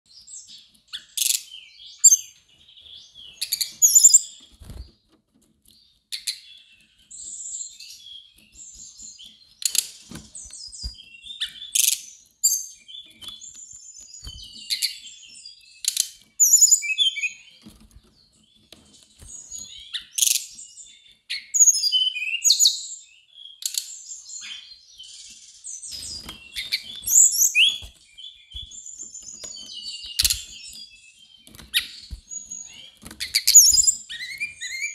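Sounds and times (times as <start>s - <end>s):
bird singing high warbling phrases: 0.1s - 4.8s, 5.8s - 17.6s, 18.2s - 34.9s.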